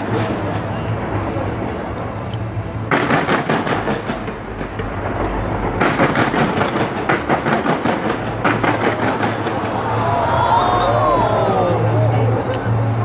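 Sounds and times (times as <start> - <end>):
fireworks crackling bangs: 0.0 - 11.0
steady low rumble: 0.0 - 13.0.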